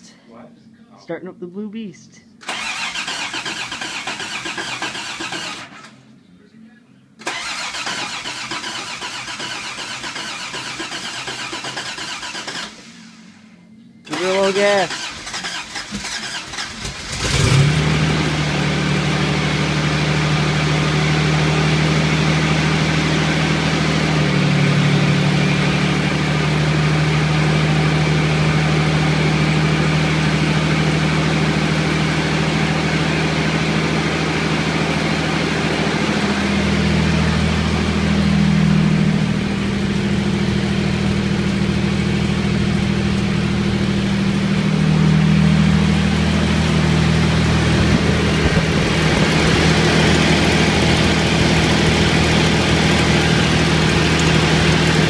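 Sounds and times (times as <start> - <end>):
car engine starting and idling: 2.4 - 6.3, 7.2 - 55.0.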